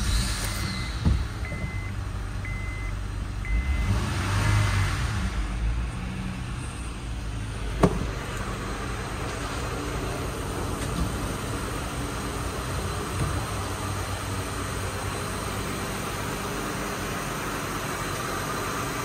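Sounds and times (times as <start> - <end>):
car engine idling: 0.0 - 4.0, 5.3 - 19.0.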